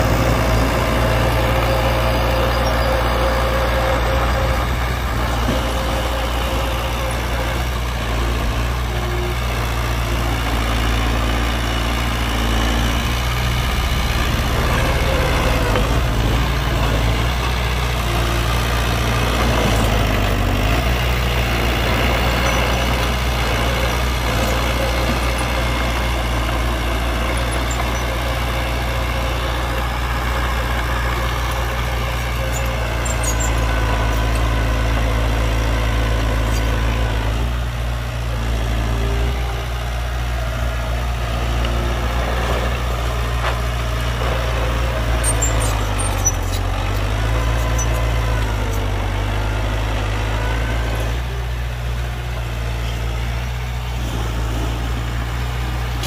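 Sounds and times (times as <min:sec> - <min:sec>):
heavy diesel engines rumbling: 0:00.0 - 0:56.0.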